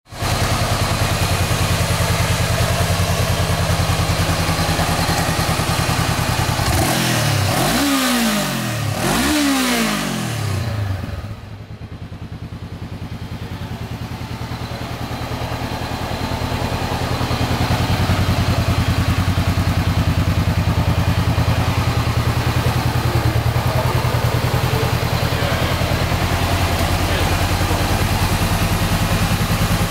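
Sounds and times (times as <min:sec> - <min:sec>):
motorcycle engine idling: 0:00.1 - 0:29.9.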